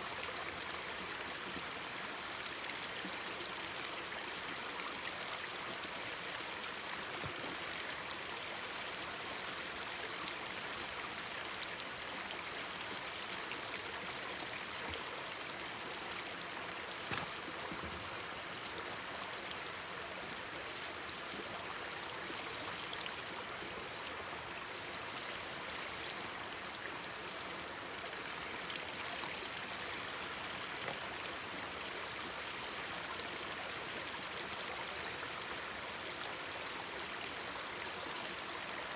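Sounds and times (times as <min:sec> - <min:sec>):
mountain stream babbling: 0:00.2 - 0:38.9.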